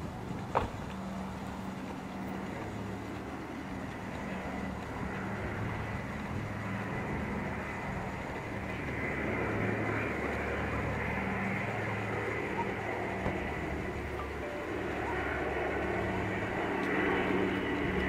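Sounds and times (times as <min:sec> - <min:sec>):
propeller aircraft engines droning: 0:00.0 - 0:18.0.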